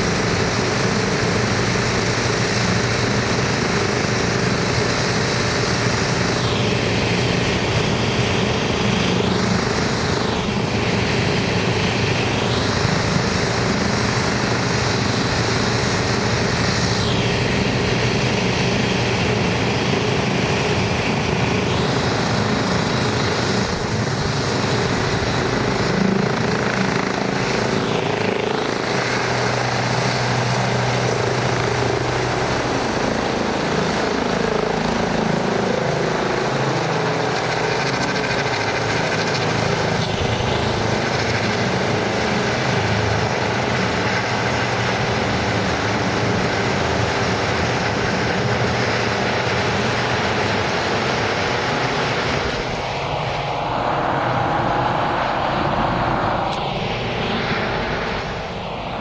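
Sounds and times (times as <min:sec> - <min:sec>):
helicopter taking off: 0:00.0 - 0:59.0.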